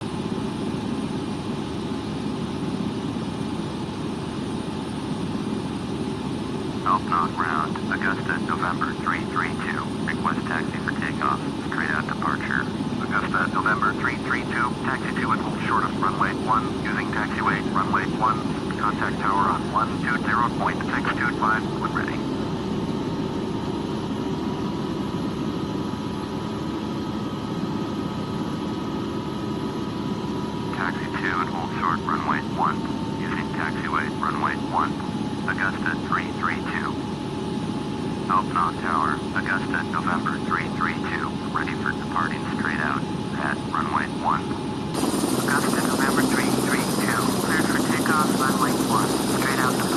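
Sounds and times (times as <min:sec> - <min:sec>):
helicopter engine and rotor drone: 0:00.0 - 0:49.9
high turbine whine: 0:00.0 - 0:49.9.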